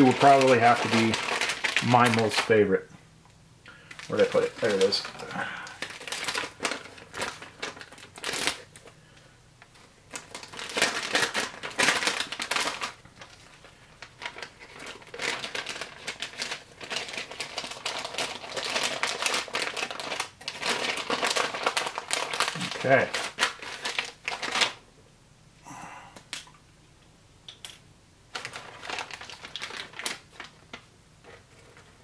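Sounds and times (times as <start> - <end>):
plastic and foil packaging crinkling: 0.0 - 2.9, 3.7 - 24.8, 28.3 - 32.0.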